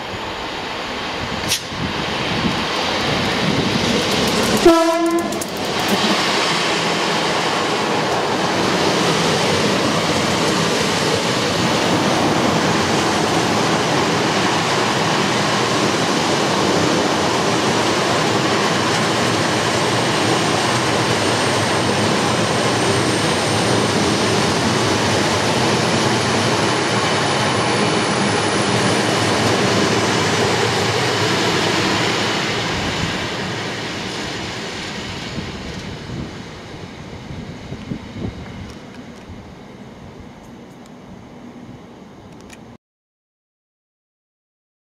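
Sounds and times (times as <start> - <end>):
train wheels on rails: 0.0 - 41.2
diesel locomotive engine: 0.0 - 42.7.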